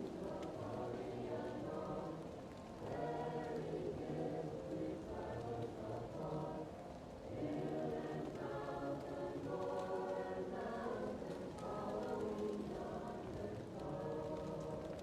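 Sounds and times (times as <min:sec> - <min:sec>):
muffled choir singing: 0:00.0 - 0:15.0
wood fire crackling: 0:00.0 - 0:15.0.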